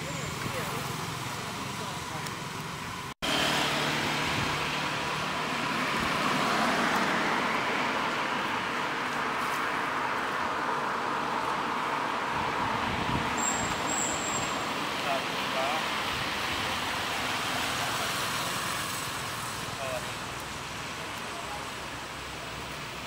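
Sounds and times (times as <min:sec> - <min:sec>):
distant road traffic: 0:00.0 - 0:23.0.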